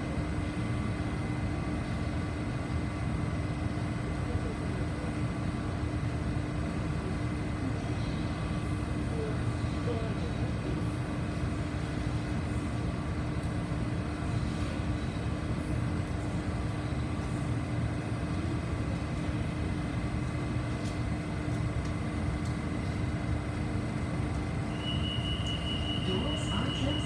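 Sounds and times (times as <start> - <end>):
metro train interior hum: 0.0 - 27.0.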